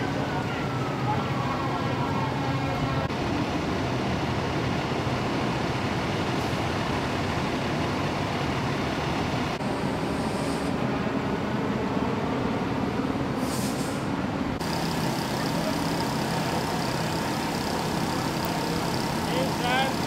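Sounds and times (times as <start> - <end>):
fire truck diesel engines rumbling: 0.0 - 20.0.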